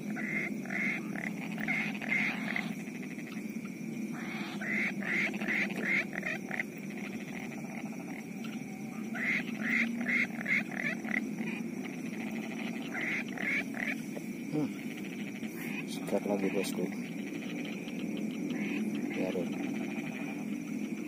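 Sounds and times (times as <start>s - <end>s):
frogs croaking: 0.0s - 21.0s.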